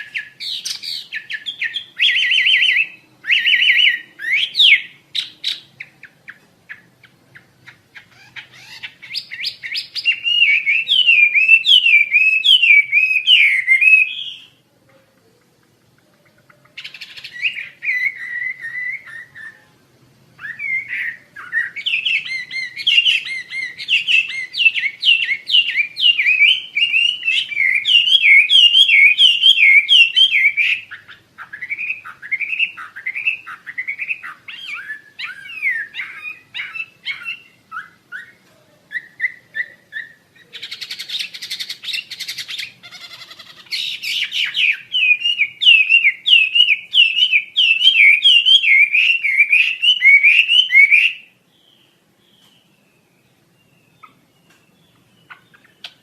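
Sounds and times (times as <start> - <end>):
bird whistled warbling song: 0.0 - 14.6, 16.2 - 19.8, 20.4 - 56.0.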